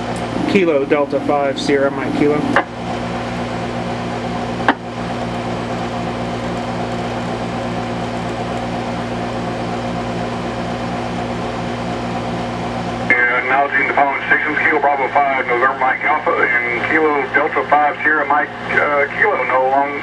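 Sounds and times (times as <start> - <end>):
radio speaker electrical hum: 0.0 - 20.0.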